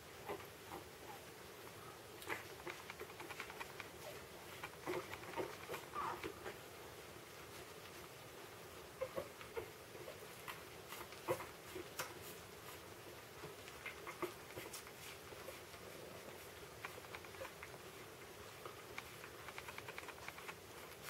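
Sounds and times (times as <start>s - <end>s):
puppies suckling: 0.2s - 6.7s, 9.0s - 21.0s.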